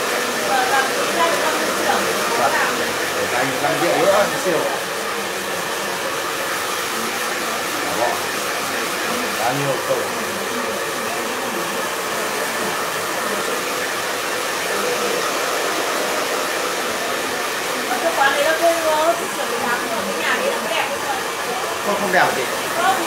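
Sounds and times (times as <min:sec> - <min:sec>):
faint voices: 0:00.0 - 0:23.0
hair dryer running: 0:00.0 - 0:23.0.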